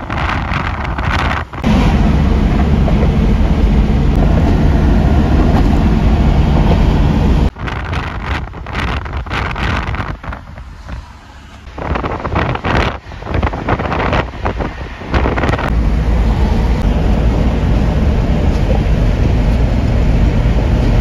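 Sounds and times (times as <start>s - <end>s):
vehicle low rumble: 0.0s - 21.0s
wind noise on microphone: 0.0s - 21.0s.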